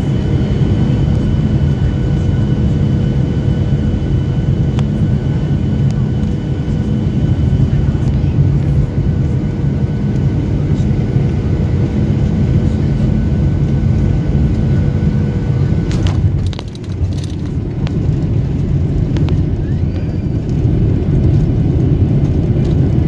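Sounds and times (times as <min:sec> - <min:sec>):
jet engines and wheels rumbling: 0:00.0 - 0:23.0
steady whine: 0:00.0 - 0:23.0.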